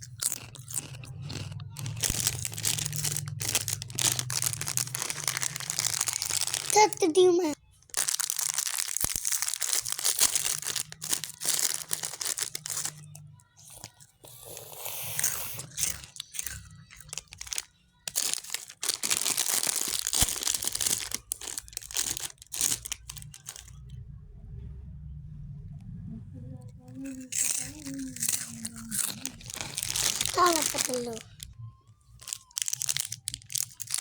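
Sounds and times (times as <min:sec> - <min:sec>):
plastic wrappers crinkling and tearing: 0:00.0 - 0:23.9, 0:27.0 - 0:34.0.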